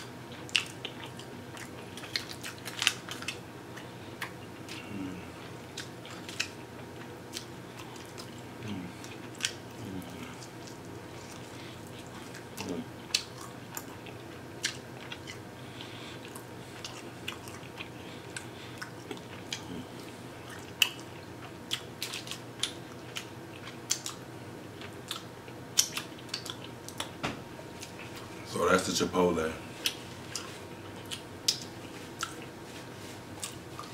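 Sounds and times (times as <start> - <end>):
person chewing ribs: 0.0 - 28.5, 29.6 - 33.9.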